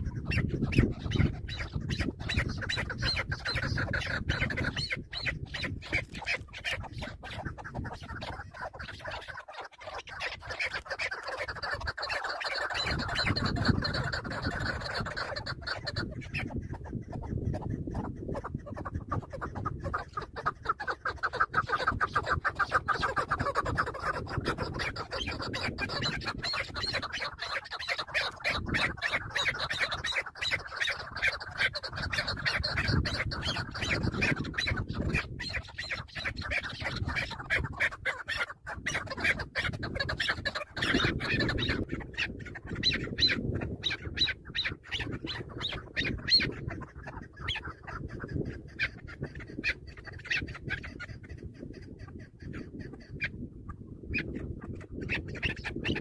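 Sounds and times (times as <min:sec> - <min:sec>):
partridges squawking: 0:00.0 - 0:56.0.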